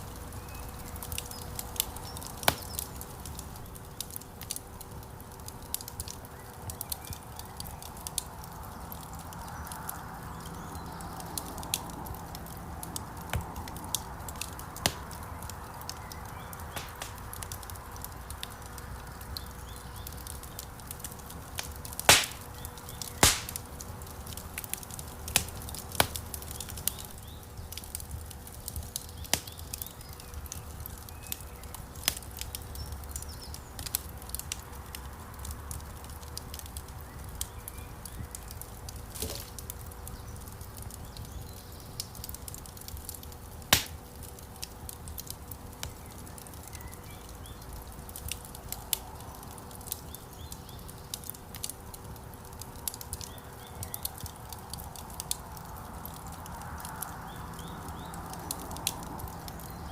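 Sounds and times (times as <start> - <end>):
loud pops of fire: 0.0 - 59.9
wood fire crackling: 0.0 - 59.9.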